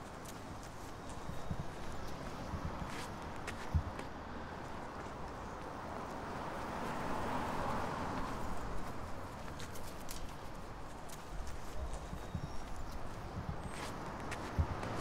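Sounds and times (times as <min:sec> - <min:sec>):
hard steps on pavement: 0:00.0 - 0:07.4, 0:08.1 - 0:15.0
street noise: 0:00.0 - 0:15.0.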